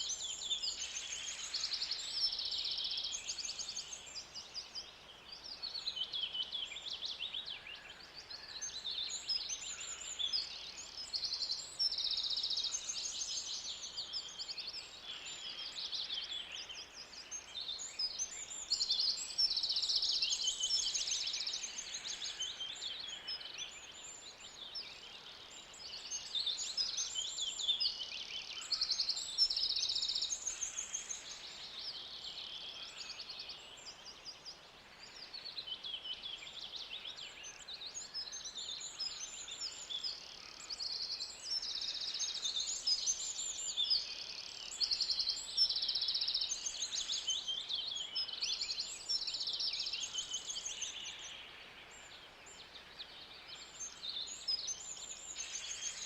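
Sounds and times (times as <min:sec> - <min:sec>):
many birds singing and calling: 0:00.0 - 0:56.0.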